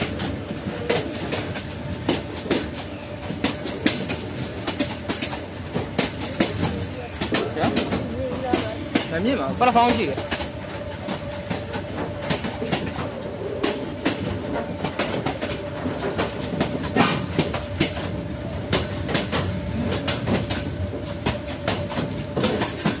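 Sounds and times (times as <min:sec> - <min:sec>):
carriages rattling: 0:00.0 - 0:23.0
low train rumble: 0:00.0 - 0:23.0
train wheels clacking over rail joints: 0:00.0 - 0:23.0.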